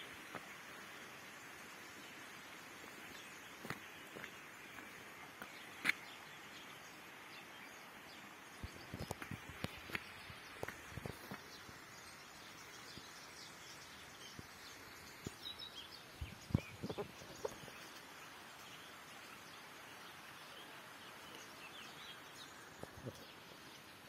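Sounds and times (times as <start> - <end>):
small birds chirping: 0.0 - 24.0
steady outdoor hiss: 0.0 - 24.0.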